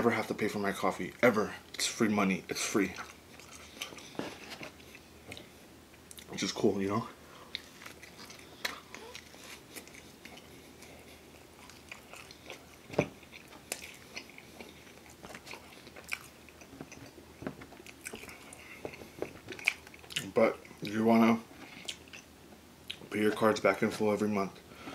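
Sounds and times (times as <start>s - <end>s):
chewing pizza crust: 0.3s - 24.0s.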